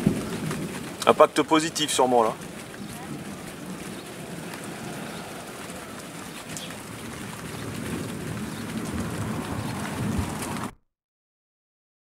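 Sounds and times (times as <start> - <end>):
rain hissing: 0.0 - 10.7
thunder rumble: 0.0 - 10.8.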